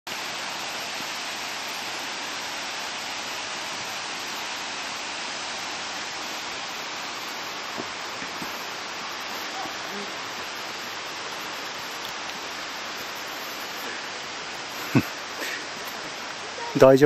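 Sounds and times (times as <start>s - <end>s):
waterfall rushing: 0.1s - 17.0s.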